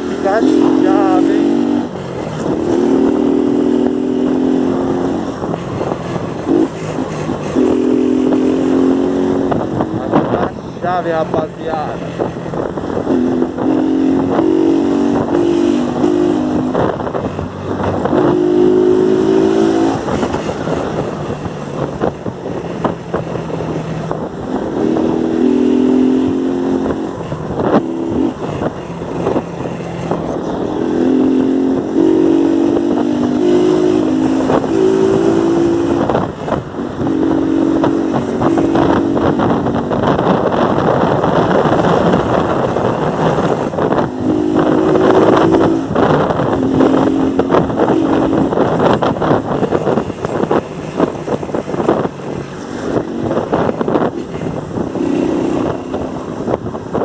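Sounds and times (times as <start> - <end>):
motorcycle engine revving: 0.0 - 57.0
wind on microphone: 0.0 - 57.0.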